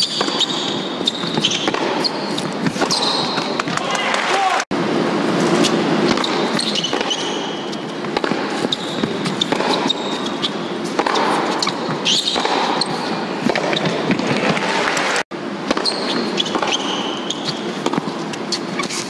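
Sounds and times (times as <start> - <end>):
shoe squeaks: 0.0 - 3.7, 5.5 - 14.6, 15.8 - 19.0
ball bouncing on hard court: 0.0 - 3.9, 5.6 - 19.0
racquet striking ball: 0.0 - 3.9, 5.4 - 19.0
indoor arena hush: 0.0 - 19.0.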